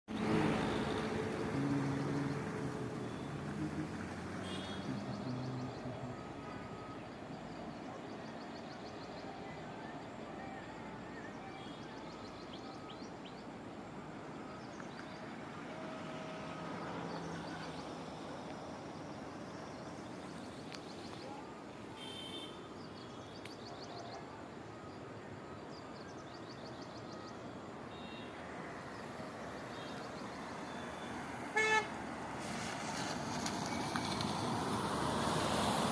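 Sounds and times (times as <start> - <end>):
road noise: 0.1 - 35.9.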